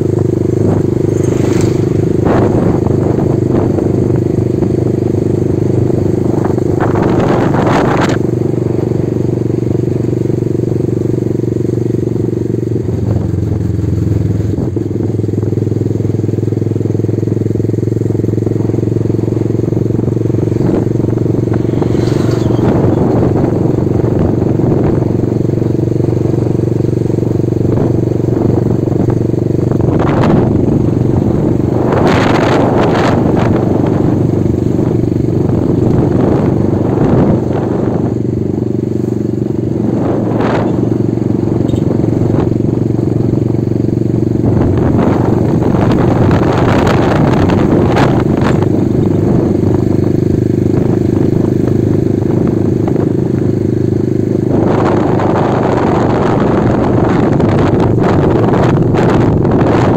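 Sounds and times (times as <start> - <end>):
road and wind noise rushing: 0.0 - 59.9
small motorcycle engine running: 0.0 - 59.9.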